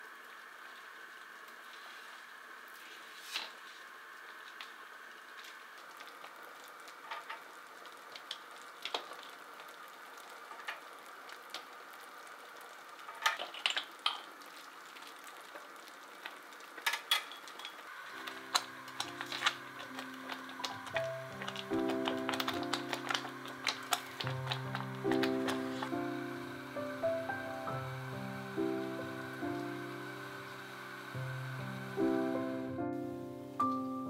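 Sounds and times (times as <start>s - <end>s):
jam simmering and water boiling: 0.0s - 34.0s.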